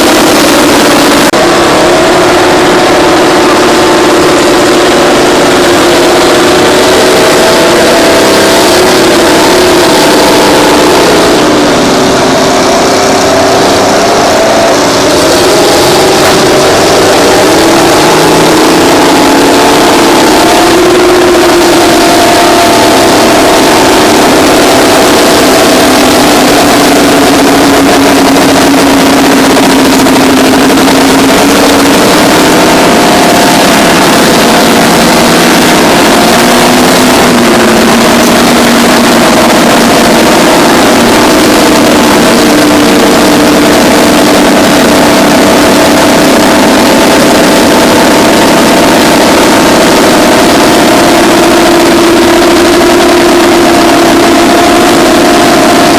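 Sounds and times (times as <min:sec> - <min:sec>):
bulldozer diesel engines running: 0:00.0 - 0:55.9.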